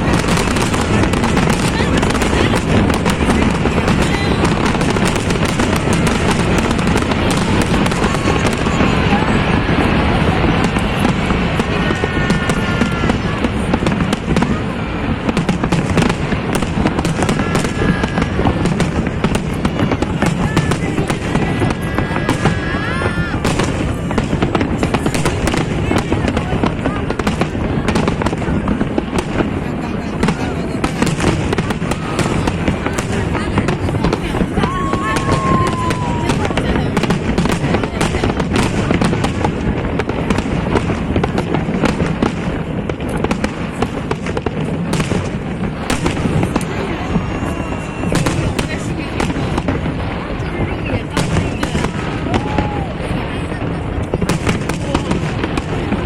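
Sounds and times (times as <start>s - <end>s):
fireworks bangs and crackles: 0.0s - 56.0s
fireworks whistling: 0.0s - 56.0s.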